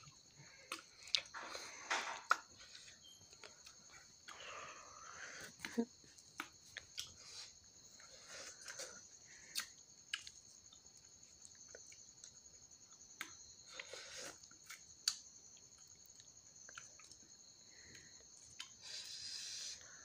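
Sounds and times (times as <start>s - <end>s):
man chewing: 0.0s - 4.8s, 5.4s - 17.3s, 17.9s - 19.8s
crickets chirring: 0.0s - 20.0s.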